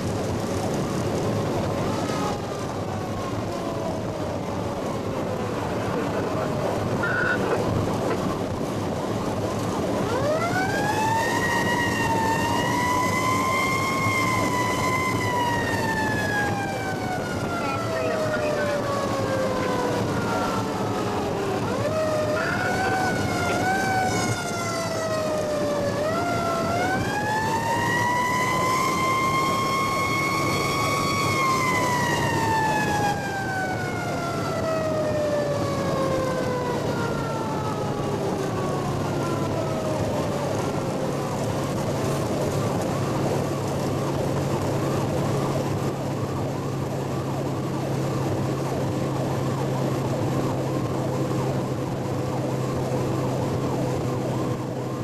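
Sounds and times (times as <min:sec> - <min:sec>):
fire truck siren: 0:00.0 - 0:55.0
road noise: 0:00.0 - 0:55.0
truck engine drone: 0:00.0 - 0:55.0.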